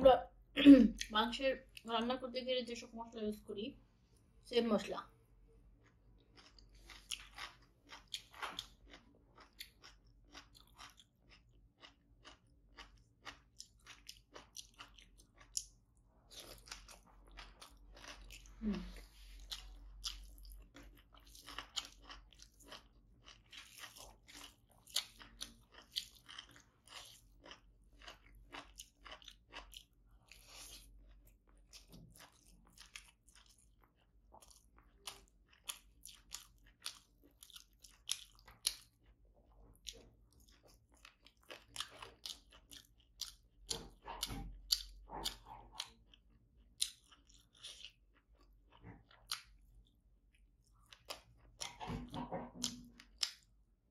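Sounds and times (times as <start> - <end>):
person chewing food: 5.5 - 53.8.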